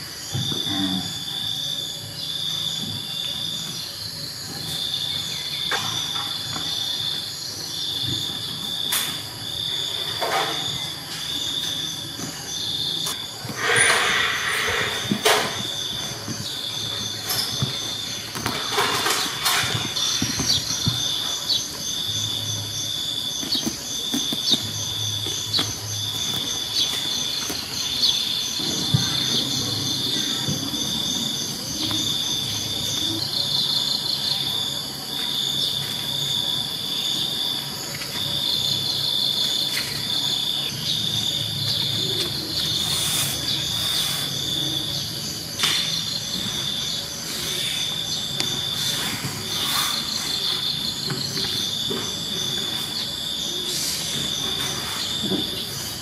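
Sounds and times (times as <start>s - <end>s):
higher pulsed insect call: 0.0s - 56.0s
insects trilling: 0.0s - 56.0s.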